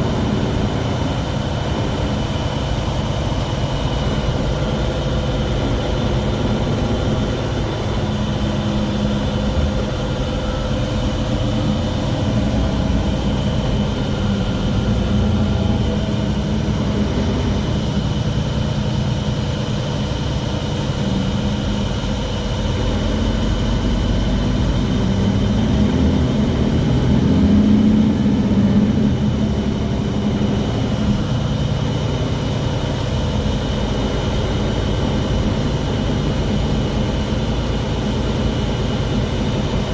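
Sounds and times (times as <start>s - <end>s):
bus engine rumble with whine: 0.0s - 39.9s.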